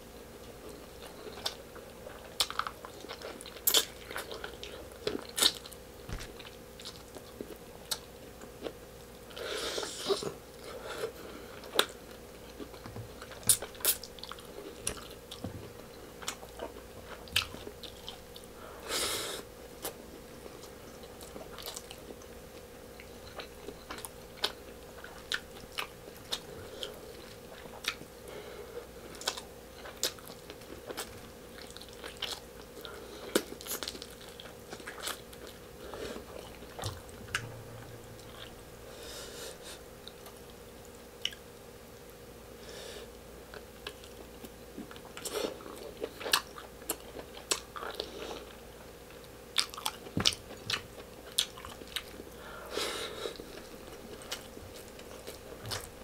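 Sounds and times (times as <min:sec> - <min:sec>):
faint steady hum: 0:00.0 - 0:56.0
person chewing with wet smacks: 0:00.7 - 0:09.4, 0:10.0 - 0:18.5, 0:19.8 - 0:28.1, 0:29.1 - 0:37.6, 0:40.0 - 0:41.5, 0:43.5 - 0:52.4, 0:53.3 - 0:56.0.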